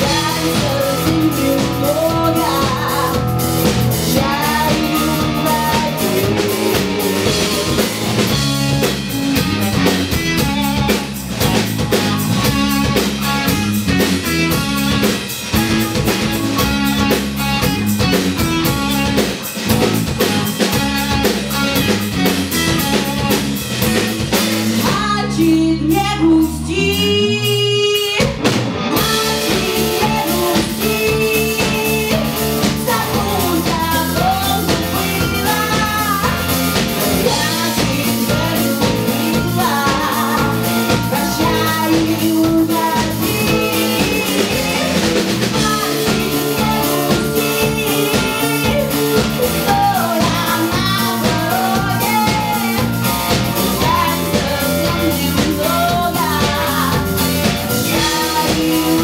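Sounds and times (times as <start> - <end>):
woman singing: 0.0 - 13.5, 24.7 - 59.0
bass guitar: 0.0 - 59.0
drum kit beat: 0.0 - 59.0
electric guitar: 0.0 - 59.0
keyboards: 0.0 - 59.0.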